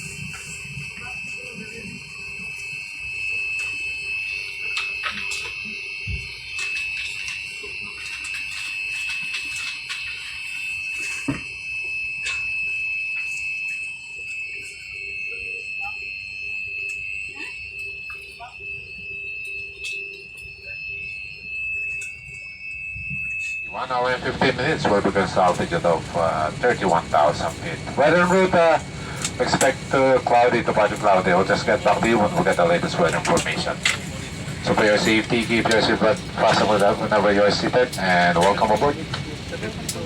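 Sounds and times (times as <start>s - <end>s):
high-pitched cabin whine: 0.0s - 40.0s.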